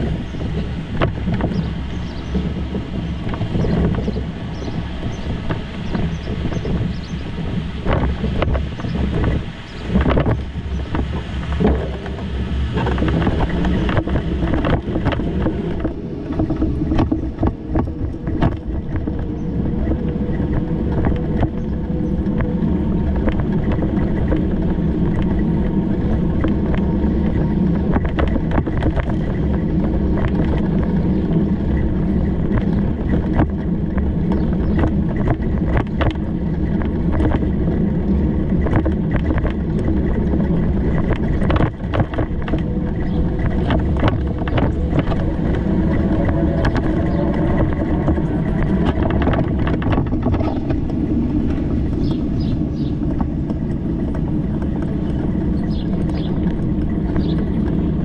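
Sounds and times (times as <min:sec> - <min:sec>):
bicycle clicks and rattles: 0:00.0 - 0:58.0
road and wind rumble: 0:00.0 - 0:58.0.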